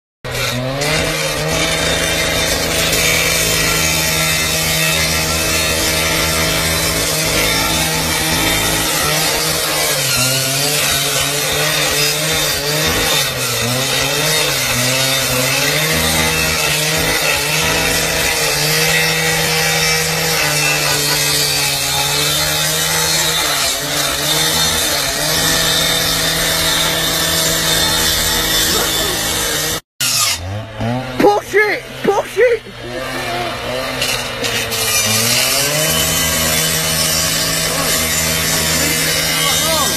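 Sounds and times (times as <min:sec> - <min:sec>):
angle grinder cutting steel: 0:00.3 - 0:39.9.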